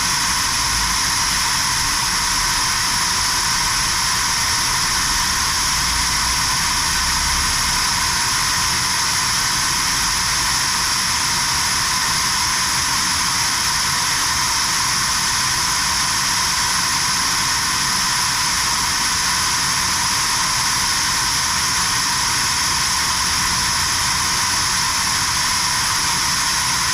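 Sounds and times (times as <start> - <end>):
fan blowing air: 0.0 - 26.9.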